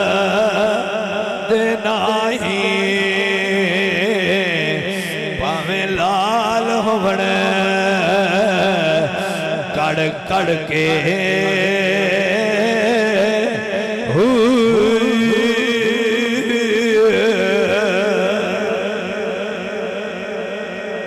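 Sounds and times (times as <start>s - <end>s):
man chanting melismatic melody: 0.0s - 21.0s.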